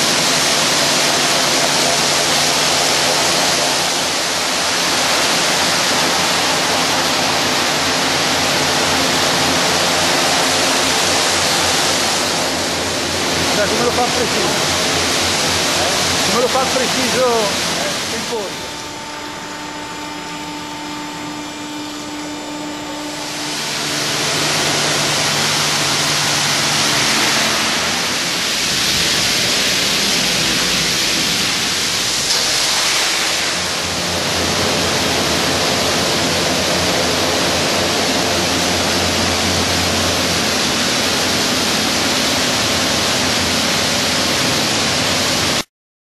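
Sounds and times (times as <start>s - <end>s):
high-pressure water spray hissing: 0.0s - 18.8s, 23.1s - 45.6s
low machine hum: 0.0s - 45.7s.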